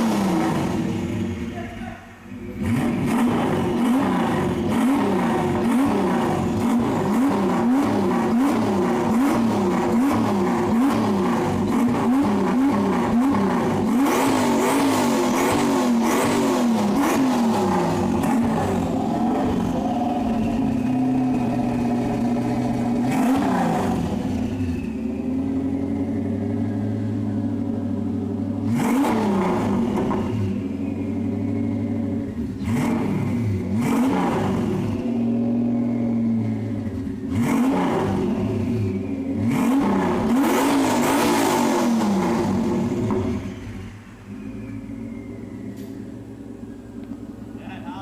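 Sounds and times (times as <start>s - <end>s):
turbo engine idling and revving: 0.0s - 48.0s.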